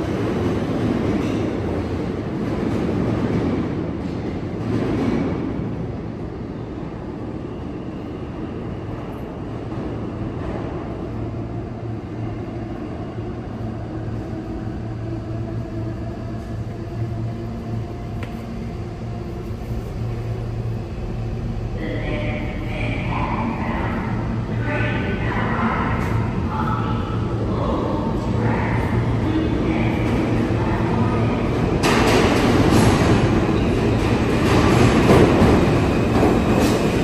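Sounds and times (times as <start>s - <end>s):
subway train rumble: 0.0s - 37.0s.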